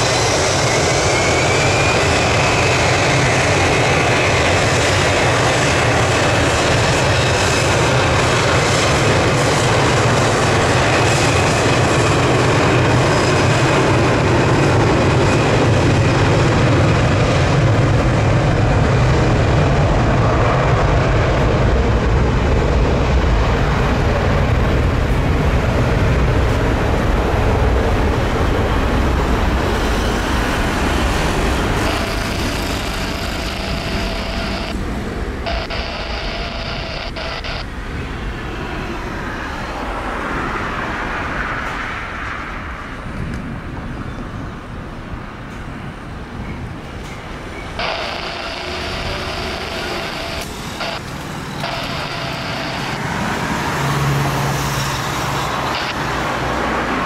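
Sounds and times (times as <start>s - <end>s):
jet engines at takeoff thrust: 0.0s - 57.0s.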